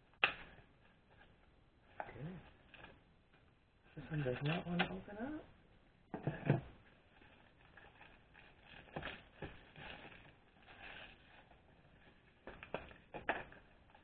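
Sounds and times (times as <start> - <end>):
plastic packaging crinkling and clicking: 0.1 - 5.0, 6.8 - 14.0.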